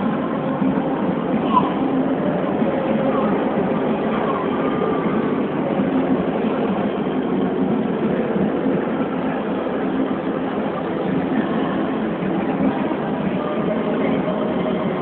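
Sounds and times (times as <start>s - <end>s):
echoing crowd voices: 0.0s - 15.0s.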